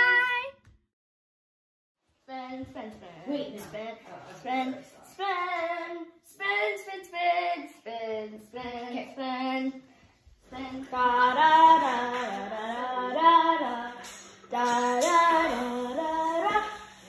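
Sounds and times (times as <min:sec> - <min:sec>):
girls singing unaccompanied: 0:02.6 - 0:17.0.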